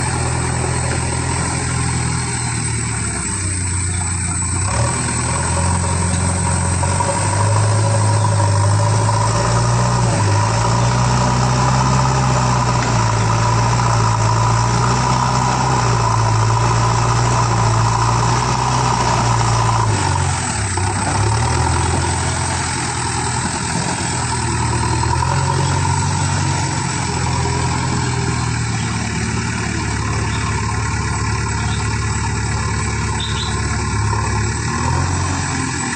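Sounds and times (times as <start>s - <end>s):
machine engine running: 0.0s - 35.9s.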